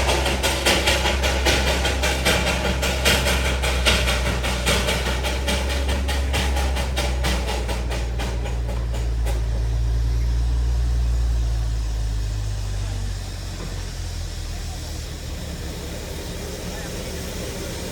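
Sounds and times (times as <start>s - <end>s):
low engine drone: 0.0s - 17.9s
quick even train beat: 0.0s - 17.9s.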